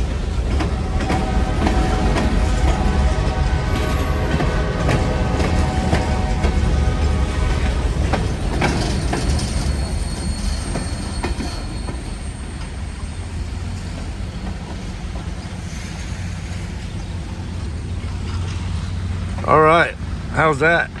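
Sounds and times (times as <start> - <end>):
clacks over rail joints: 0.0 - 21.0
freight train rumbling past: 0.0 - 21.0
wheels squealing: 0.0 - 21.0.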